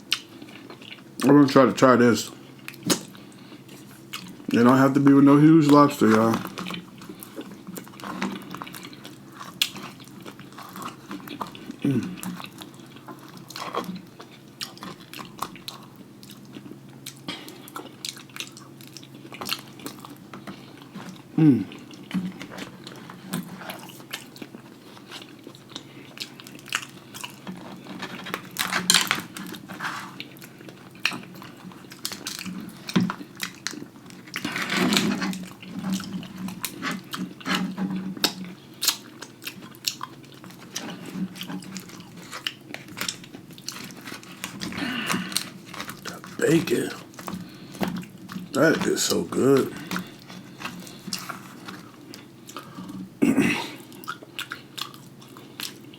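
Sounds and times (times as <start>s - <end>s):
chewing and lip-smacking: 0.0s - 1.4s, 2.3s - 53.1s, 53.7s - 55.9s.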